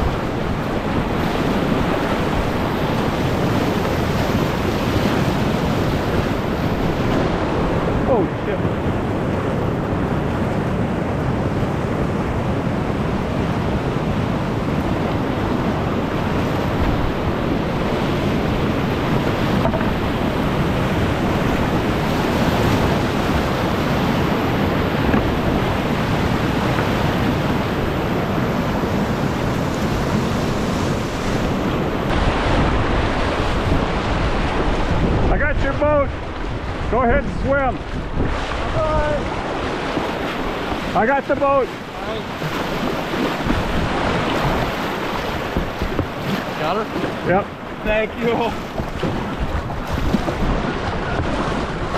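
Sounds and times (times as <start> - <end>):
whitewater rapids rushing: 0.0 - 51.9.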